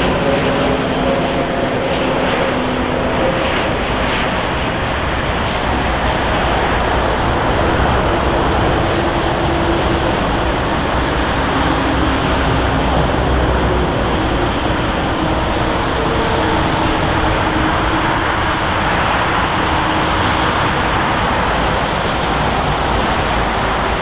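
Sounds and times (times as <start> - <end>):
jet airliner passing: 0.0 - 24.0.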